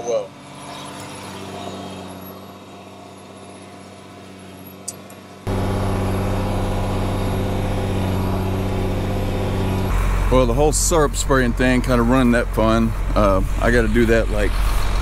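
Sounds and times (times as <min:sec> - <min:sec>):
tractor engine running: 0:01.0 - 0:15.0.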